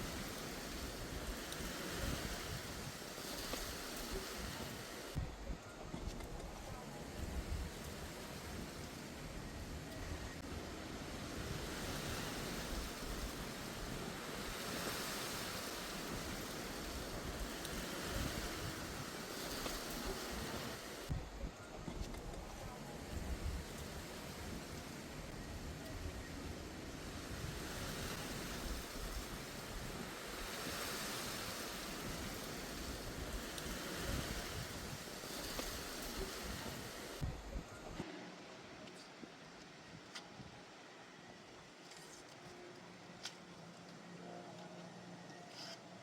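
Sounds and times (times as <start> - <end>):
rushing wind: 0.0 - 38.1.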